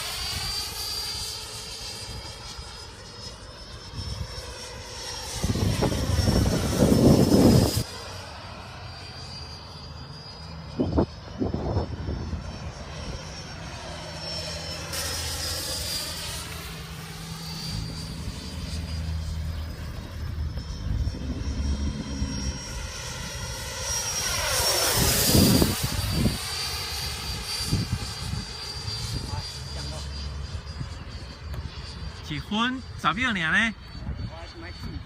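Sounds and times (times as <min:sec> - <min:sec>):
model jet fan whine: 0:00.0 - 0:35.0.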